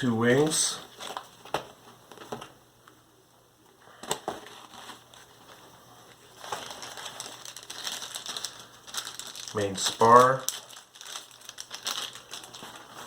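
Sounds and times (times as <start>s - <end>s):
packaging rustling: 0.8s - 2.5s, 3.8s - 13.0s.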